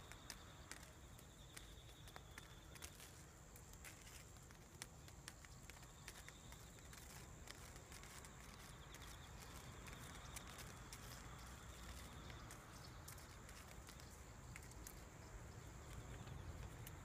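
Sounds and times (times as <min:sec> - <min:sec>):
faint steady high whine: 0:00.0 - 0:17.0.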